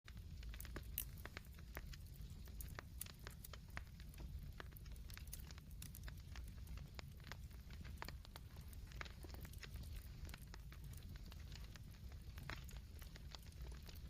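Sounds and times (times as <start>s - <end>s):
campfire crackling: 0.1s - 14.0s
low steady rumble: 0.1s - 14.0s.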